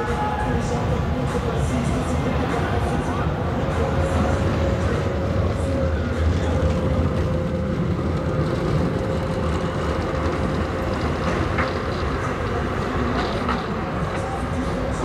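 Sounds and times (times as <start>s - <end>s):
tram running past: 0.0s - 15.0s.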